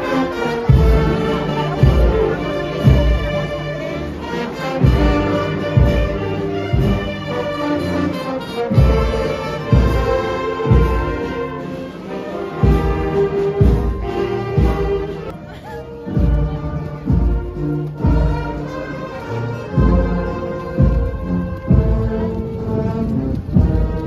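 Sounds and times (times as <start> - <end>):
brass band playing a march: 0.0 - 24.0.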